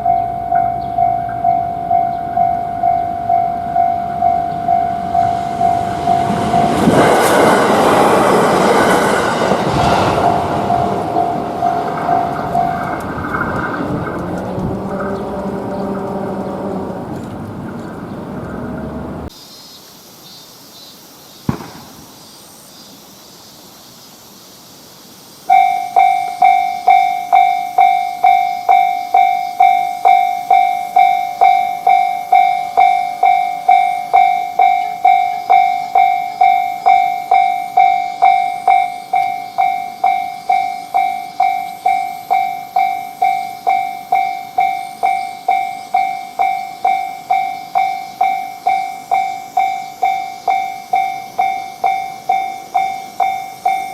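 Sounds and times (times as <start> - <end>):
railroad crossing warning bell: 0.0 - 19.3, 25.5 - 53.9.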